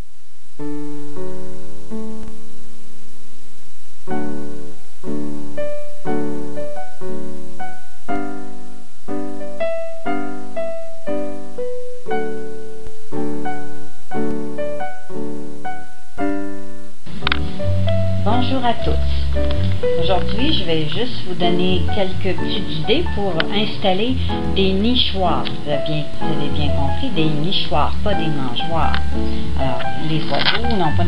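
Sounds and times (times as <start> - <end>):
gentle piano music: 0.0 - 31.0.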